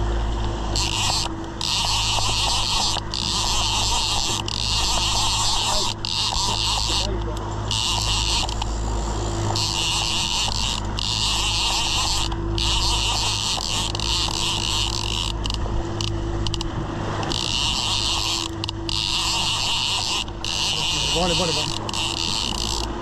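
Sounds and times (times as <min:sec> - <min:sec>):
outboard motor running: 0:00.0 - 0:23.0
rushing water and wind hiss: 0:00.0 - 0:23.0.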